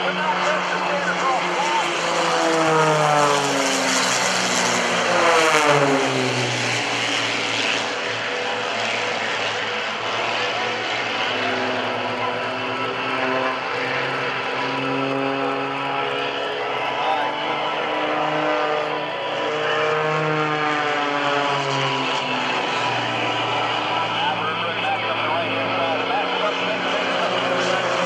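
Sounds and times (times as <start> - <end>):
propeller planes flying past: 0.0 - 28.0.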